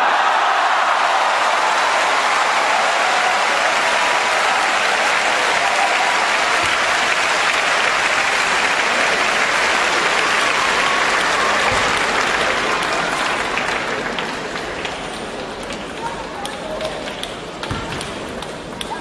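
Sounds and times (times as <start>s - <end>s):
crowd applauding: 0.0s - 17.2s.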